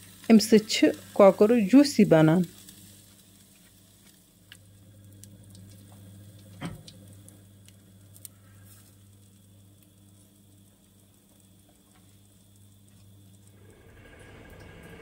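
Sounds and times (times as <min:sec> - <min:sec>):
electric oven humming: 0:00.0 - 0:15.0.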